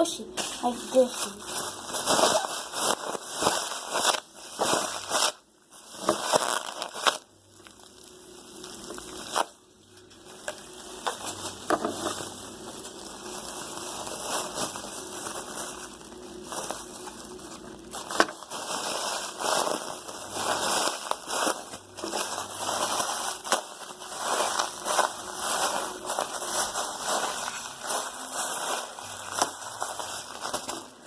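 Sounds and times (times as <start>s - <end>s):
plastic bag crinkling: 0.1s - 31.0s.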